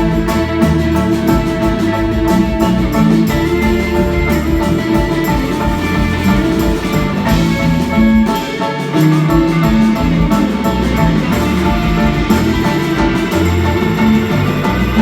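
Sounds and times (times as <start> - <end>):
bass guitar: 0.0 - 15.0
drum kit: 0.0 - 15.0
guitars: 0.0 - 15.0
keyboard: 0.0 - 15.0.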